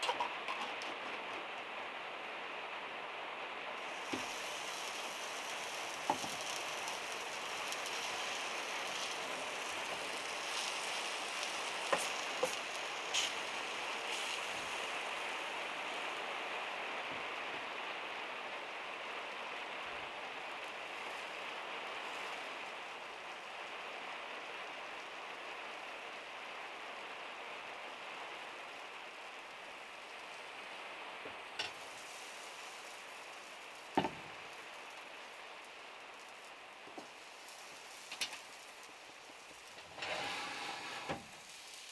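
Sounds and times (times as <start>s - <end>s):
rain drumming on metal roof: 0.0s - 41.9s.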